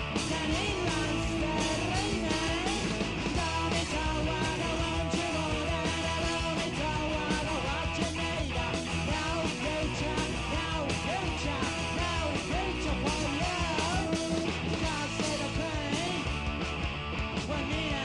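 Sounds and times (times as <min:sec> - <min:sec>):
punk rock band playing: 0:00.0 - 0:18.0
person singing with wavering pitch: 0:00.2 - 0:16.2.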